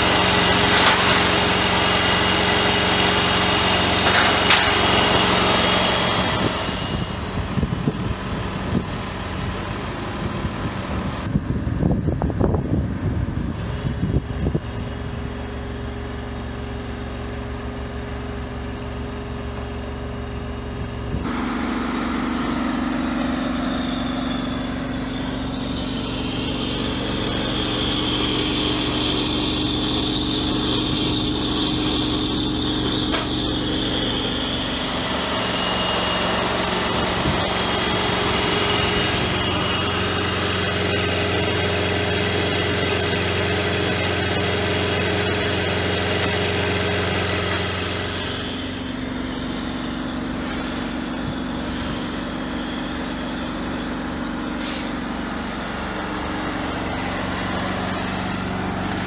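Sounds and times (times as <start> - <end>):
road-marking machine engine humming: 0.0 - 59.0.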